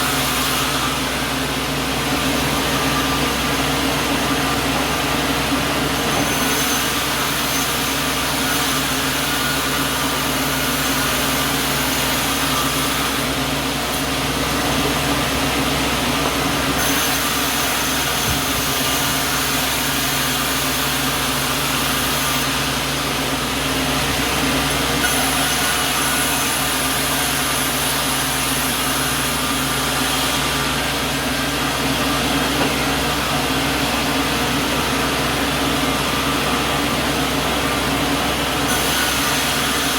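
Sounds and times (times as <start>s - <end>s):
saw rushing noise: 0.0s - 39.9s
sawmill motor hum: 0.0s - 39.9s.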